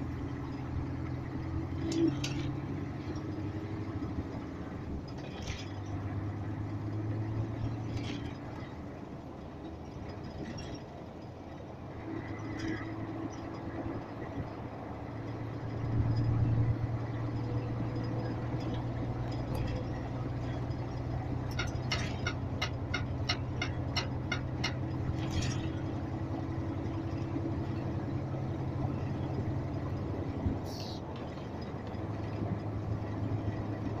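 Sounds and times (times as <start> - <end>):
vehicle engine hum: 0.0 - 34.0.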